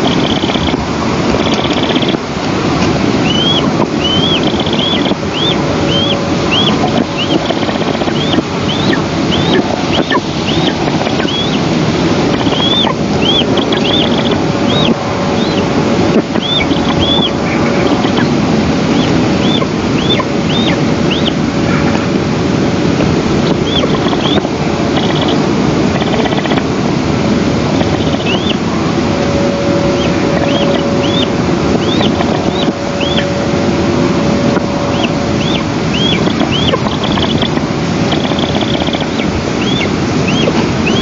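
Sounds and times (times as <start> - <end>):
eagle chick begging calls: 0.0 - 2.2, 3.2 - 21.4, 23.4 - 26.6, 27.7 - 28.6, 30.0 - 33.4, 34.9 - 41.0
wind on microphone: 0.0 - 41.0.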